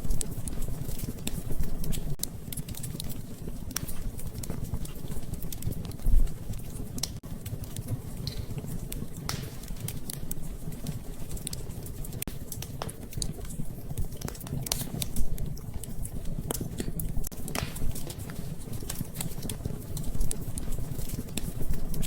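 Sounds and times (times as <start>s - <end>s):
rain patter: 0.0s - 22.0s
wood fire crackling: 0.0s - 22.0s.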